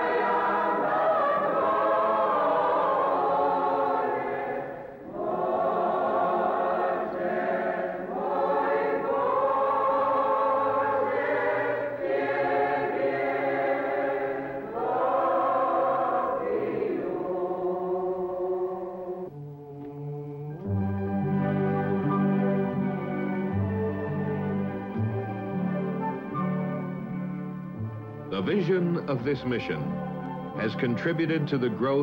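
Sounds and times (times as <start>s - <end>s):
choir singing a hymn: 0.0s - 27.4s, 28.3s - 32.0s.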